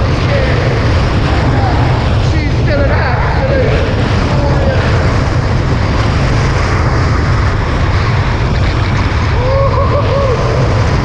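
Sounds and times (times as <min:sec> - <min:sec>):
water rushing past hulls: 0:00.0 - 0:11.0
wind buffeting microphone: 0:00.0 - 0:11.0.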